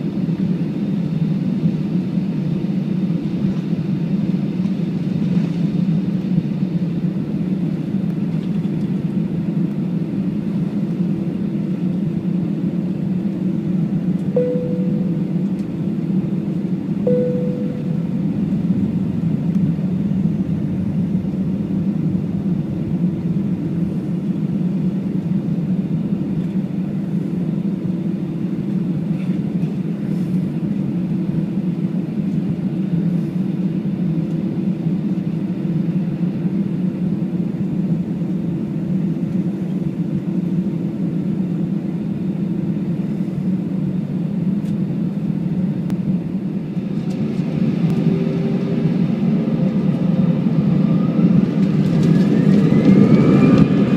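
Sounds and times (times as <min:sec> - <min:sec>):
rising engine whine: 0:00.0 - 0:44.4, 0:45.4 - 0:53.9
airplane cabin rumble: 0:00.0 - 0:53.9.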